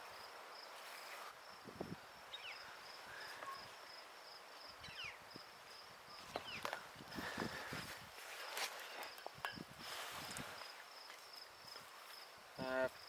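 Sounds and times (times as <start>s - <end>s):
insects trilling: 0.1s - 13.0s.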